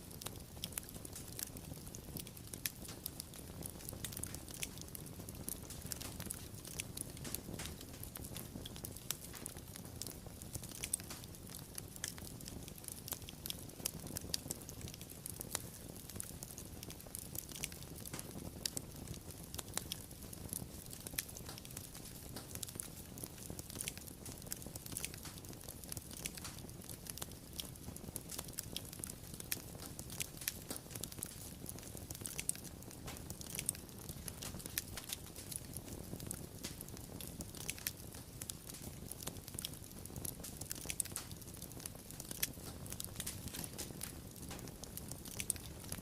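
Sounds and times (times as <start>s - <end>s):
low rumble of flames: 0.0s - 46.0s
wood fire crackling: 0.0s - 46.0s.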